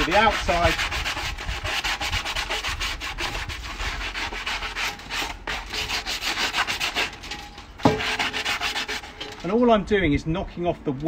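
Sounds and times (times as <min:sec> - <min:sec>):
foil scrubbing cast iron pan: 0:00.0 - 0:09.7.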